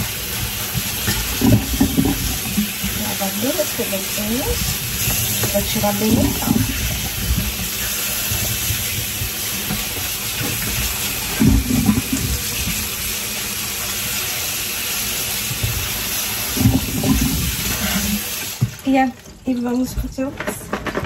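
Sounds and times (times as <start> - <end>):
bumps in sink: 0.0 - 13.1, 15.4 - 21.0
tap water splashing in sink: 0.0 - 21.0.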